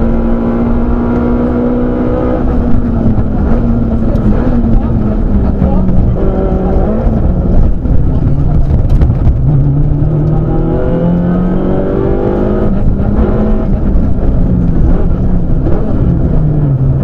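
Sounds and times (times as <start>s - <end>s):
car engine revving from cabin: 0.0s - 8.5s, 9.2s - 17.0s.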